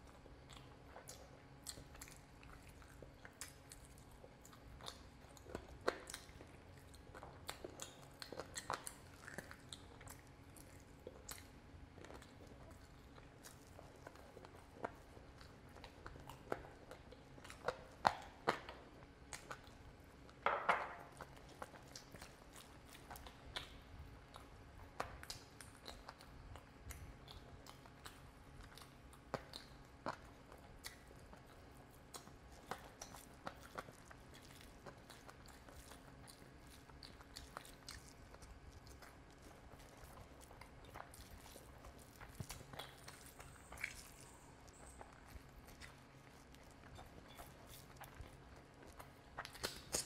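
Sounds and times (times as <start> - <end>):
man chewing food: 0.0 - 50.0
wet smacks and clicks: 0.4 - 20.4, 21.1 - 50.0.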